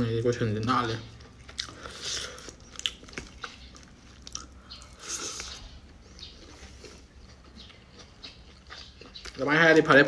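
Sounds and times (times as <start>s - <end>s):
soft chewing and mouth clicks: 0.6s - 10.0s.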